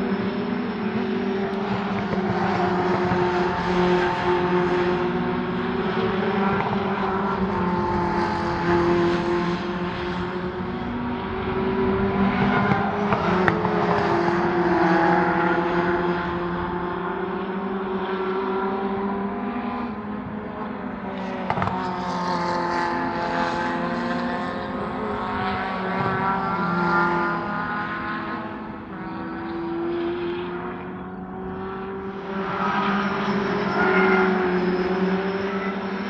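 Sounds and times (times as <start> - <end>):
racing car engines droning: 0.0 - 36.0.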